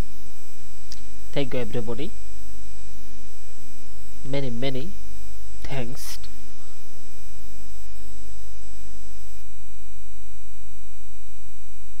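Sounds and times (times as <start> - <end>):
loud mains hum: 0.0 - 12.0.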